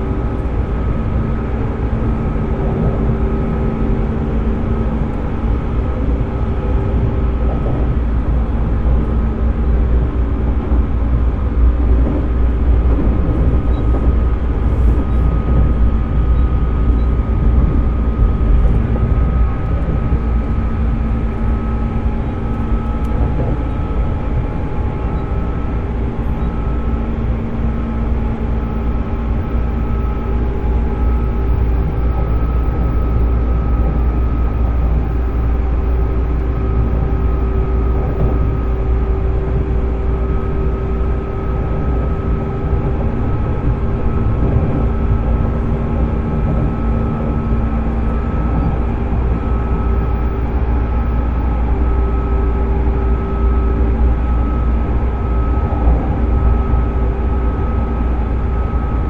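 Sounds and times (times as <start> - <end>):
rail and wheel rumble: 0.0 - 59.0
train motor and gear whine: 0.0 - 59.0.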